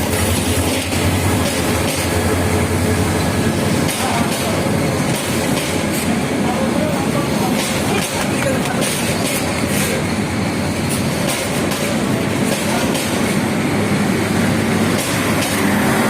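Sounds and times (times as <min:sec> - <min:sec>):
wheels clacking over rail joints: 0:00.0 - 0:06.2, 0:06.9 - 0:10.1, 0:10.8 - 0:13.4, 0:14.8 - 0:15.9
train rumbling on rails: 0:00.0 - 0:16.0.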